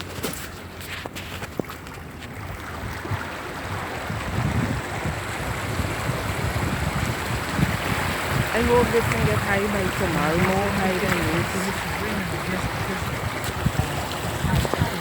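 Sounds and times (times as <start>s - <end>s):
flood water rushing: 0.0s - 15.0s
wind buffeting microphone: 0.0s - 15.0s.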